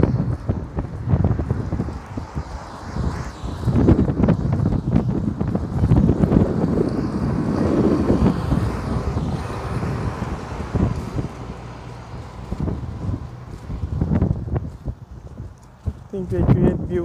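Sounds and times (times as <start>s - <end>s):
road traffic rumble: 0.0s - 17.0s
wind buffeting microphone: 0.0s - 17.0s.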